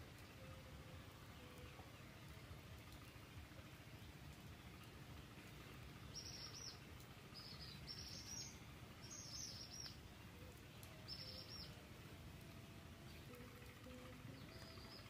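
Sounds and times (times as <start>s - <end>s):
bird chirping: 0.0s - 15.0s
faint low hum: 0.0s - 15.0s.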